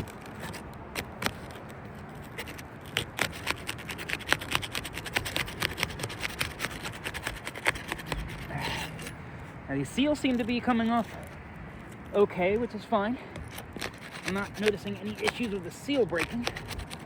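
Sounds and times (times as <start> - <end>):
roof shingles crackling and scraping: 0.0 - 17.0.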